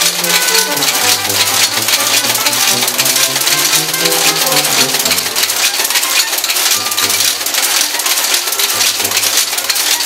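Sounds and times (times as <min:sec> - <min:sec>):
type-casting machine clattering: 0:00.0 - 0:10.0.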